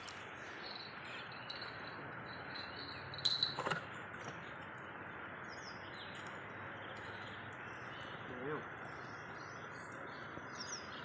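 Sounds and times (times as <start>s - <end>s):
insects chirping: 0.0s - 9.4s
birds chirping: 0.0s - 11.0s.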